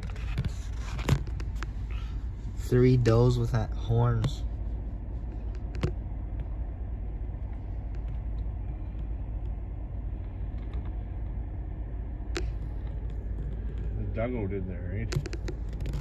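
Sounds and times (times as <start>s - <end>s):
truck engine rumble: 0.0s - 16.0s.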